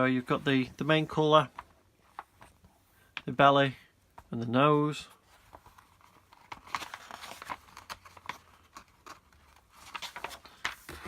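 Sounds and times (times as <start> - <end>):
paper pages rustling: 0.3 - 3.4, 5.1 - 11.0.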